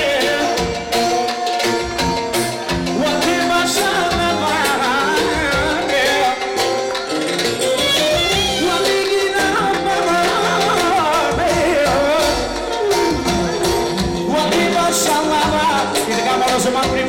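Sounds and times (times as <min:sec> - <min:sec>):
man singing into a microphone: 0:00.0 - 0:01.6, 0:02.7 - 0:06.9, 0:08.1 - 0:17.0
dance music drum beat: 0:00.0 - 0:17.0.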